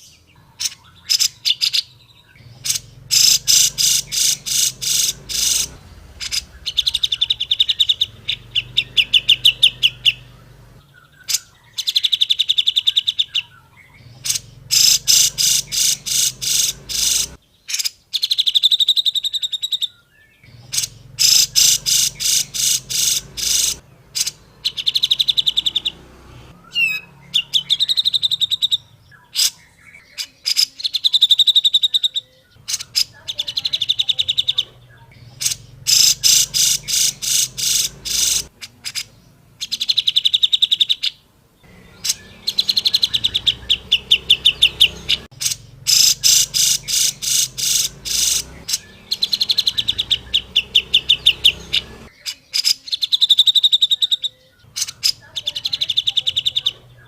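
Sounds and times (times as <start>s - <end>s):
bulbul calling rapid notes: 0.0s - 19.2s, 20.4s - 29.7s, 30.9s - 52.2s.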